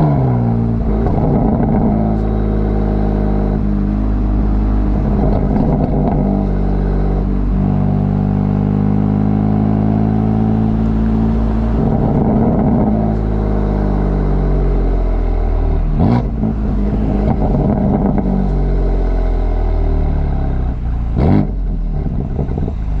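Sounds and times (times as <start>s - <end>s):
car exhaust note while driving: 0.0s - 23.0s.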